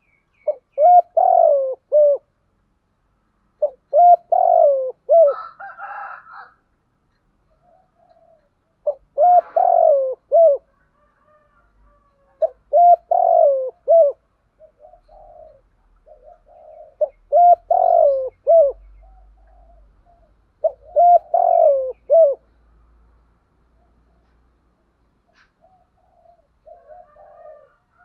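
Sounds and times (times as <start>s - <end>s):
dove cooing: 0.4s - 2.3s, 3.6s - 6.6s, 7.5s - 22.6s, 25.3s - 28.0s.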